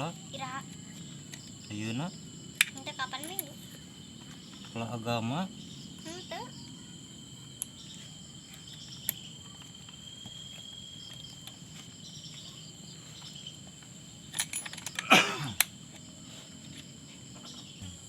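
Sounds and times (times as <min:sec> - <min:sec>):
insects chirring: 0:00.0 - 0:18.0
low background hum: 0:00.0 - 0:18.0.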